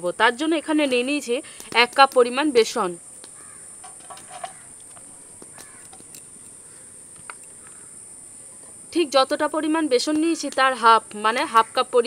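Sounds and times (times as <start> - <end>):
high-pitched insect chirring: 0.3 - 12.0.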